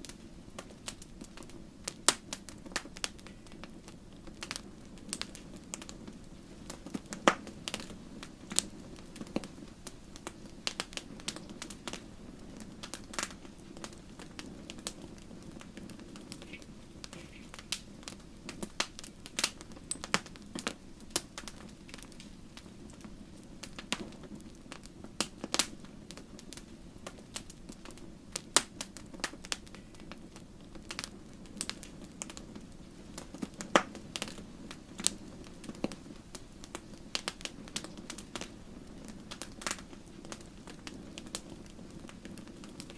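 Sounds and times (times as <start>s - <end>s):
low background noise: 0.0s - 42.9s
wood fire crackling: 0.0s - 42.9s.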